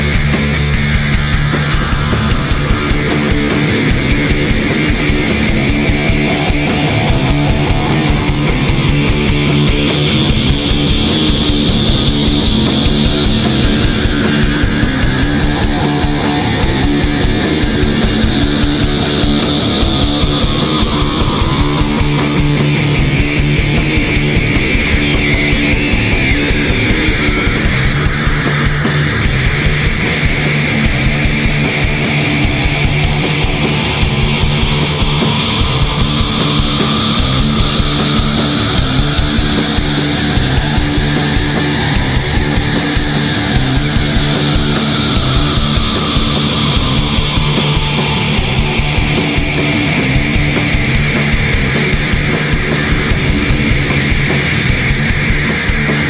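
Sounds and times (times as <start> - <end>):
loud rock music: 0.0 - 56.0.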